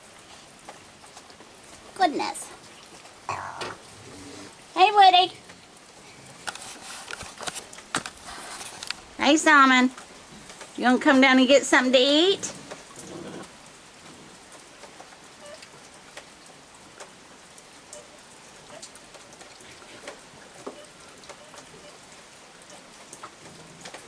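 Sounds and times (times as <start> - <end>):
sharp ticks of raindrops: 0.0 - 24.0
steady rain: 0.0 - 24.0.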